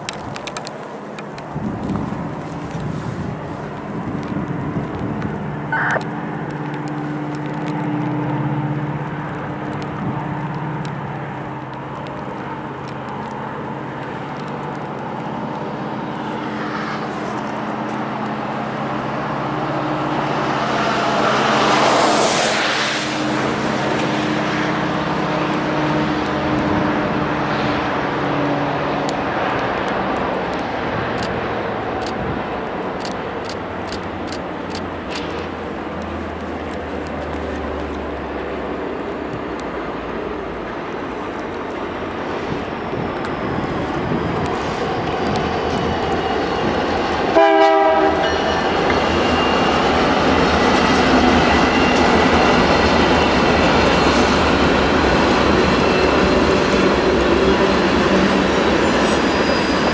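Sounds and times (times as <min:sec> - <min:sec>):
diesel locomotives droning: 0:00.0 - 0:59.9
train rushing: 0:00.0 - 0:59.9.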